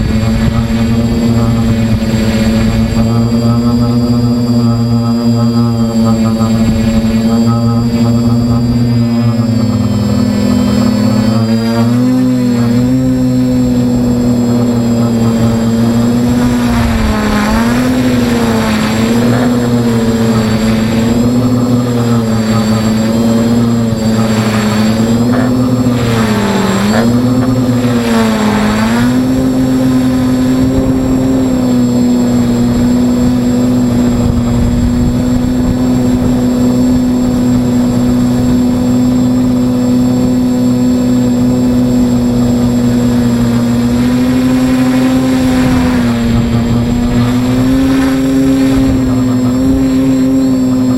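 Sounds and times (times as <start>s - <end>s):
drone motors humming: 0.0s - 50.9s.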